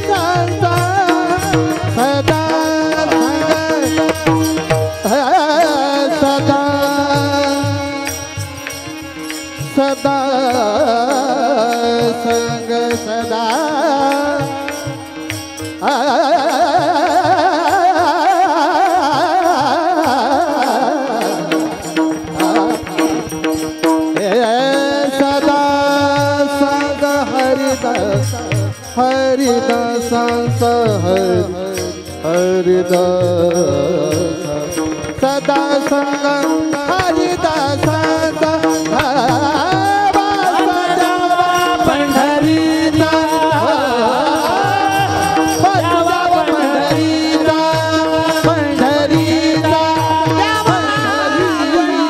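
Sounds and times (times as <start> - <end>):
men singing devotional chant: 0.0 - 52.0.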